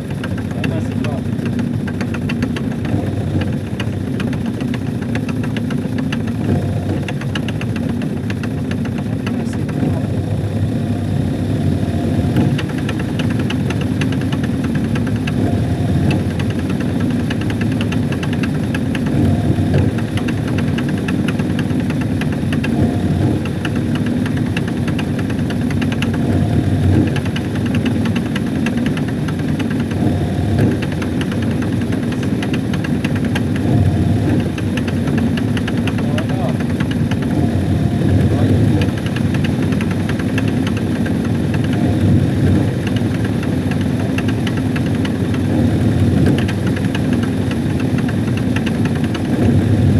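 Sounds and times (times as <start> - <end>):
rapid light ticking: 0.0 - 49.9
washing machine motor rumbling: 0.0 - 49.9.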